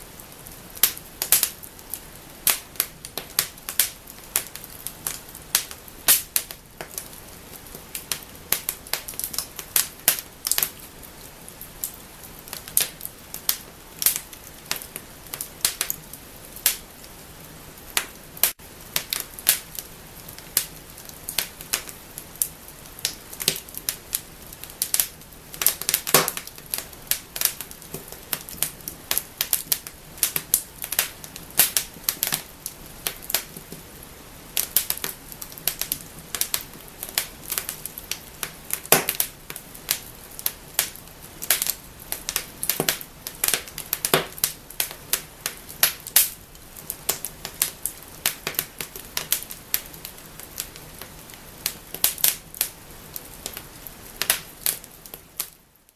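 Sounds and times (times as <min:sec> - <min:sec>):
steady low hiss: 0:00.0 - 0:55.9
wood fire crackling and popping: 0:00.0 - 0:55.9.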